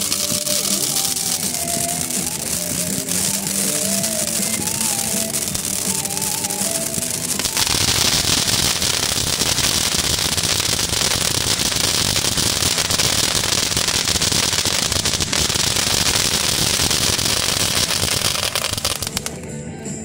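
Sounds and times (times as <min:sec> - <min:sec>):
firework fountain spraying sparks: 0:00.0 - 0:19.4
rapid crackling: 0:00.0 - 0:19.5.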